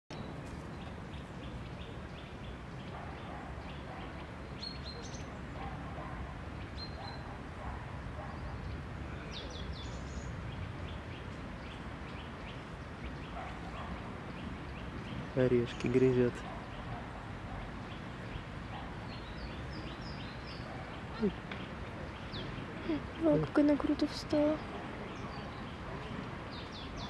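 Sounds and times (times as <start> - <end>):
songbirds chirping: 0.1 - 27.0.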